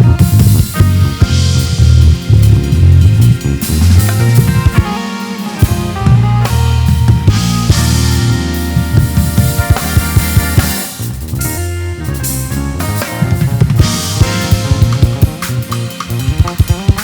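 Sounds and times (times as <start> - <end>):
drum kit kick and snare: 0.0 - 17.0
live band playing: 0.0 - 17.0.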